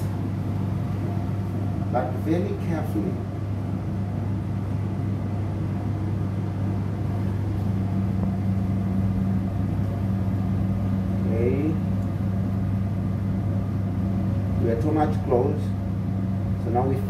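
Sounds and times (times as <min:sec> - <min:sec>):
extraction fan humming: 0:00.0 - 0:17.0.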